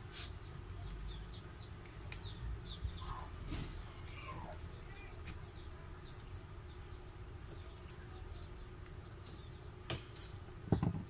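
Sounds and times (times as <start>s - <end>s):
faint chirping: 0.0s - 11.0s
steady low hum: 0.0s - 11.0s.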